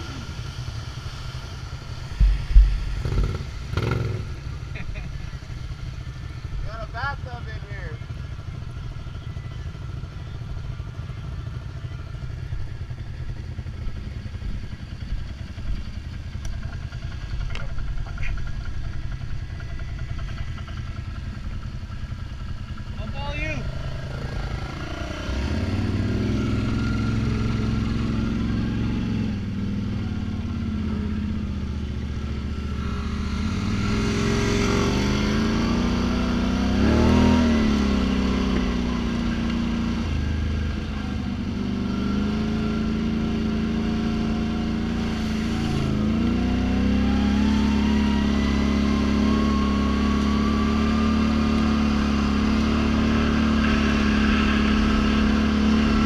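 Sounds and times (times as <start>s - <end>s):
atv engine revving: 0.0s - 56.0s
climbing engine whine: 0.0s - 56.0s.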